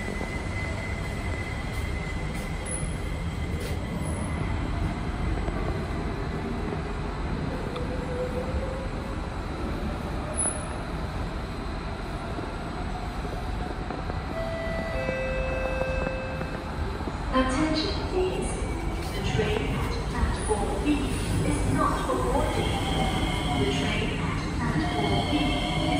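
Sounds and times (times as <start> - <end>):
train rail rumble: 0.0 - 25.9.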